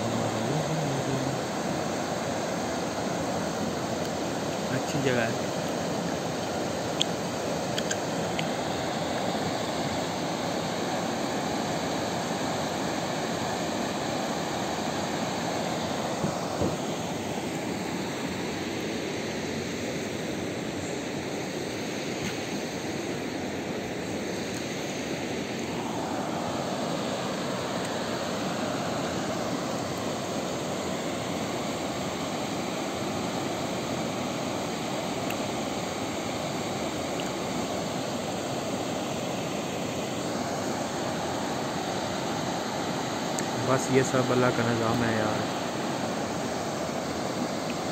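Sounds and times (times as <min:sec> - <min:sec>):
river rushing over rapids: 0:00.0 - 0:47.9.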